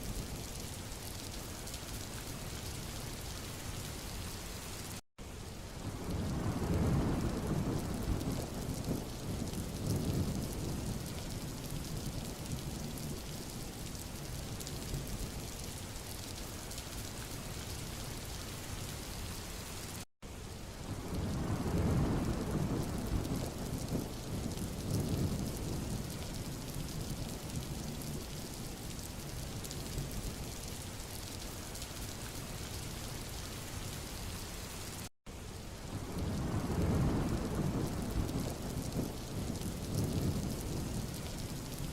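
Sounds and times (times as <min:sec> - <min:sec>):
rain hissing on road: 0:00.0 - 0:41.9.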